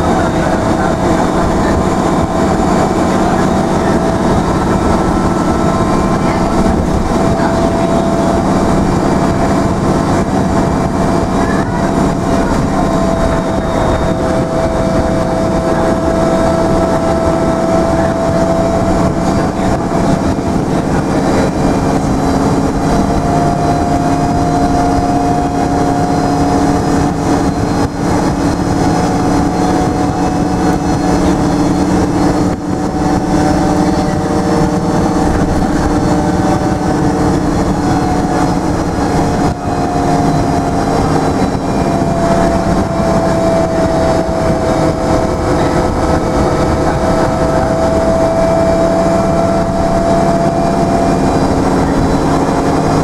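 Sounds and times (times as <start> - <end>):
bus engine drone: 0.0 - 53.0
road and rattle noise: 0.0 - 53.0
whining tone rising in pitch: 0.0 - 53.0.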